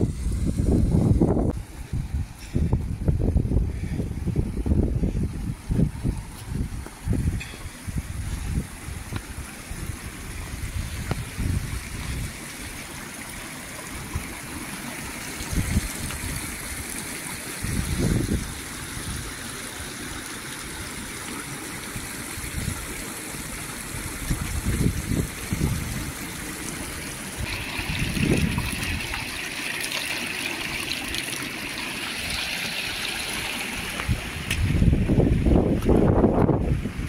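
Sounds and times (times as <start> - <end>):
stream trickling over stones: 0.0 - 37.0.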